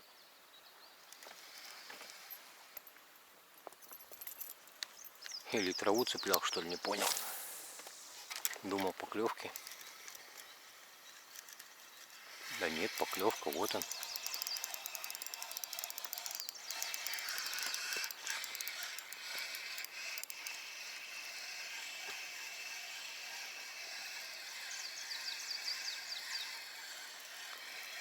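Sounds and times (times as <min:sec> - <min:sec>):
fishing reel ticking: 0:05.5 - 0:28.0.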